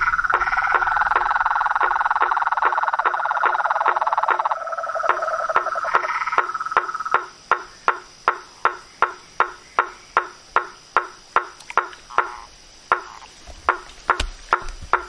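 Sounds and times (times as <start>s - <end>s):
frog buzzy trilled call: 0.0s - 15.0s
frog knocking notes: 0.0s - 15.0s.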